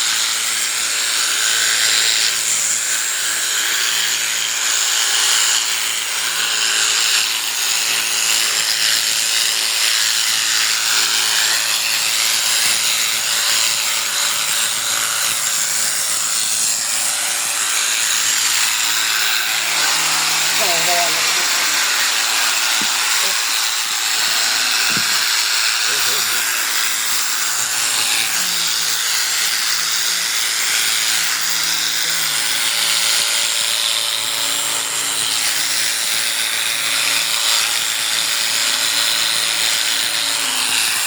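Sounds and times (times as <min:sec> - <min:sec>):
electric clippers running: 0:00.0 - 0:41.0.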